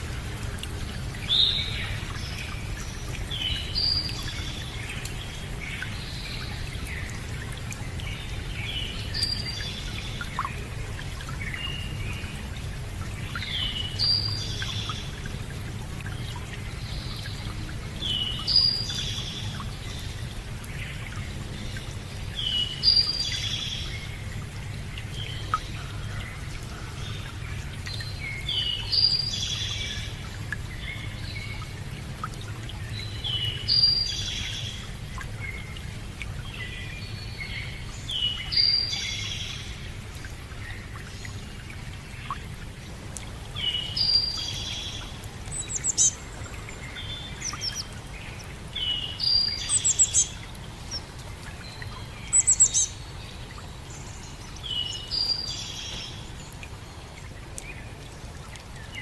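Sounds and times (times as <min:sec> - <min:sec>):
songbird singing: 0:00.0 - 0:15.4, 0:16.0 - 0:59.0
running water rushing: 0:00.0 - 0:59.0.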